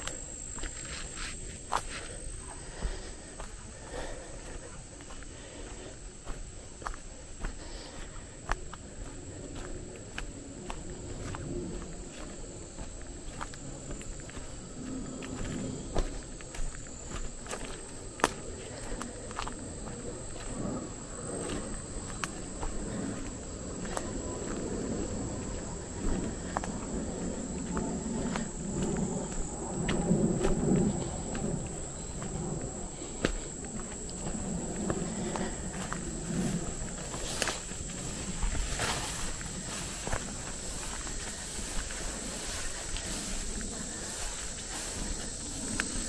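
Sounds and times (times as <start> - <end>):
footsteps crunching on leaf litter: 0.0 - 46.0
insects trilling: 0.0 - 46.0.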